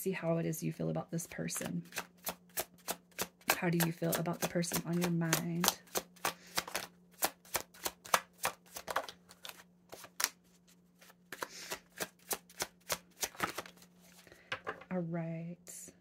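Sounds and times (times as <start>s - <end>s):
cards being shuffled and dealt: 1.4s - 14.9s.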